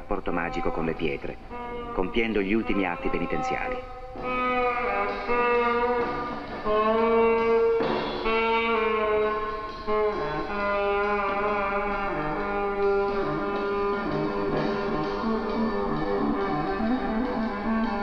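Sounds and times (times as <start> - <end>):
slow held-note music: 0.0 - 18.0.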